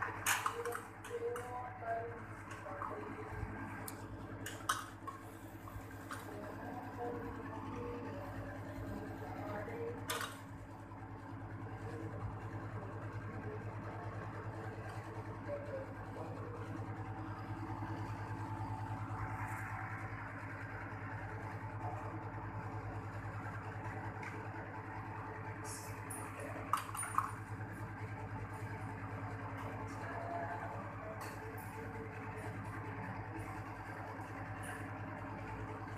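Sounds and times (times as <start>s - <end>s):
air conditioner compressor hum: 0.0s - 35.9s
condenser fan whoosh: 0.0s - 35.9s.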